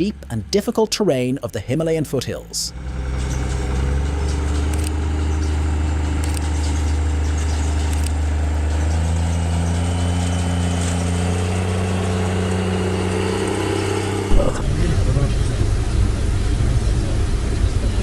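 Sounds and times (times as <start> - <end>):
locomotive engine droning: 0.0 - 18.0.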